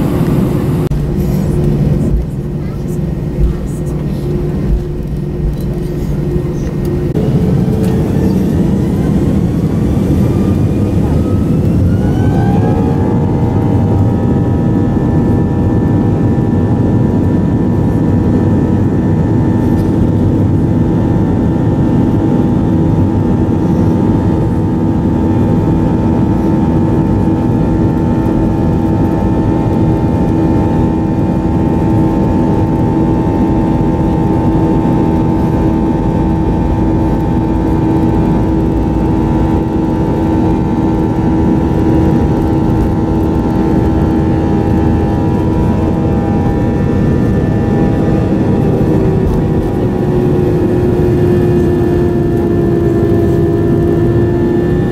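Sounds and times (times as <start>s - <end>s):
airliner engines rumbling: 0.0s - 54.9s.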